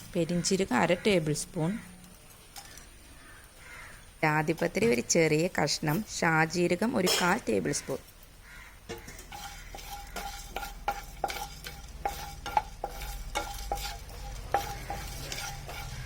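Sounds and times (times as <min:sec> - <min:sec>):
light sizzle: 0:00.0 - 0:16.0
spatula scraping spices in pan: 0:00.1 - 0:16.0.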